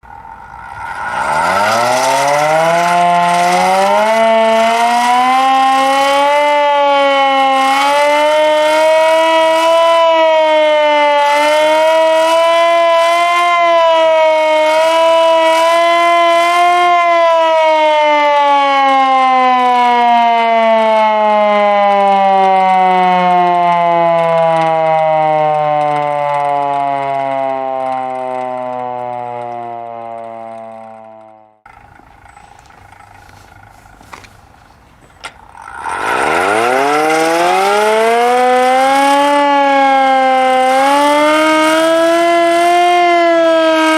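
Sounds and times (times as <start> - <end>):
siren wailing: 0.0 - 34.6, 35.2 - 43.9.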